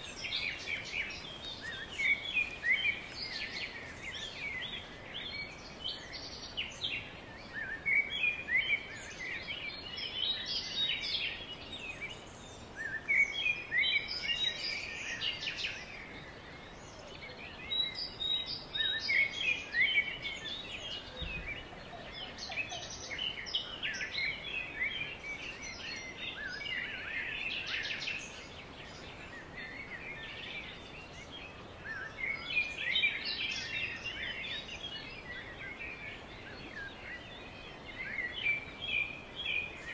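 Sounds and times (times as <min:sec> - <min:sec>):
faint outdoor hiss: 0:00.0 - 0:39.9
songbirds chirping: 0:00.0 - 0:39.9.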